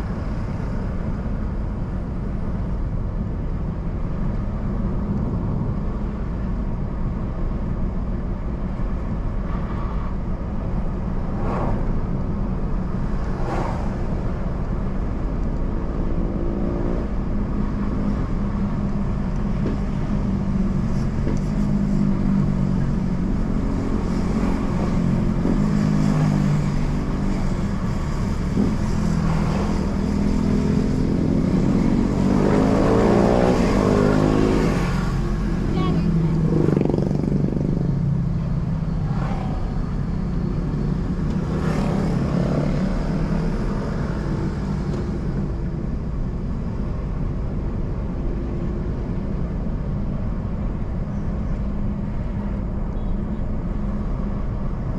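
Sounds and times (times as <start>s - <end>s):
car engine: 0.0s - 54.9s
road noise: 0.0s - 54.9s.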